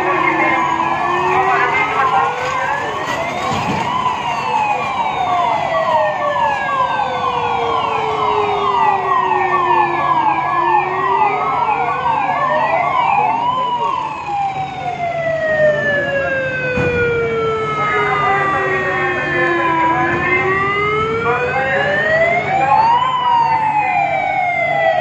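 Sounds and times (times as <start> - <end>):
siren fast falling tone: 0.0 - 25.0
siren slow wail: 0.0 - 25.0.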